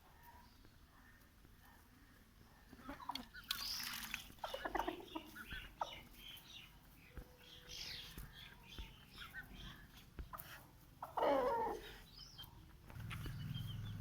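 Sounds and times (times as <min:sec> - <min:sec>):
chickens clucking: 0:00.5 - 0:14.0.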